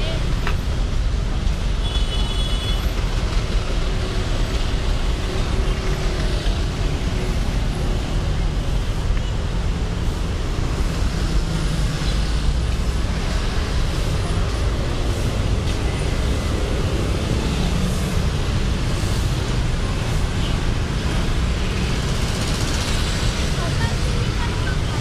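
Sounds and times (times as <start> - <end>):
city road traffic rumble: 0.0 - 25.0.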